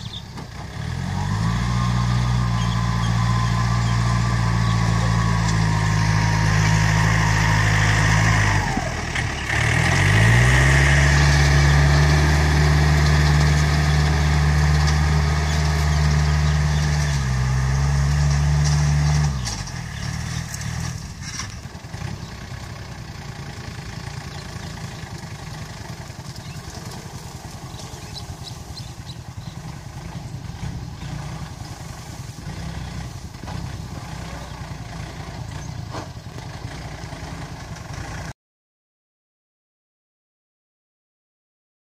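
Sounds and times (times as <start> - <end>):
tractor diesel engine running hard: 0.0 - 38.3.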